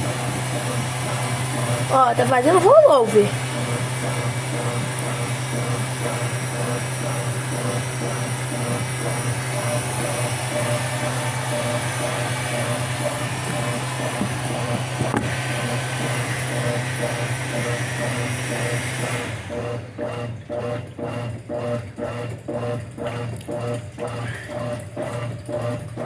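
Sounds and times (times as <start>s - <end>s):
churning water: 0.0s - 26.0s
washing machine running: 0.0s - 26.0s.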